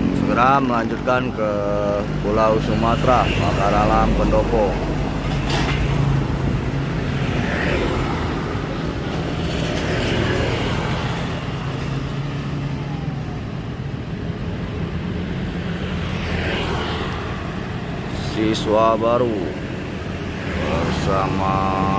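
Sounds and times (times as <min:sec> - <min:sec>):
road traffic noise: 0:00.0 - 0:21.9.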